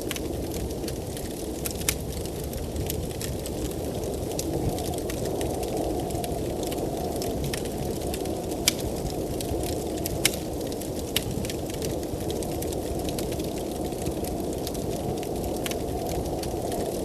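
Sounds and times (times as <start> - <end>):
blizzard wind rushing: 0.0 - 17.0
wood fire crackling and popping: 0.0 - 17.0.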